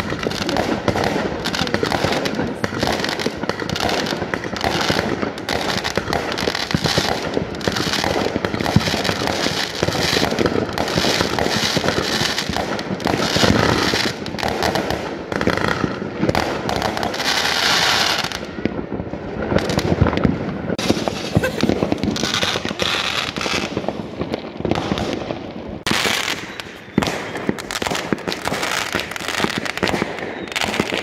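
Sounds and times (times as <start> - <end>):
fireworks bangs and pops: 0.0 - 31.0
fireworks crackling: 0.0 - 31.0.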